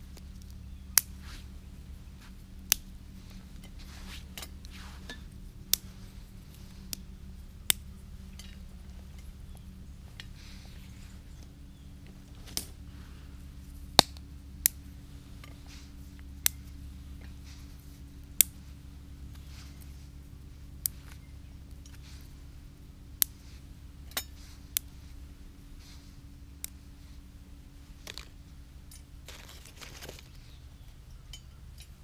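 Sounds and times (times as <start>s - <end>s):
wood crackling and popping: 0.0s - 32.0s.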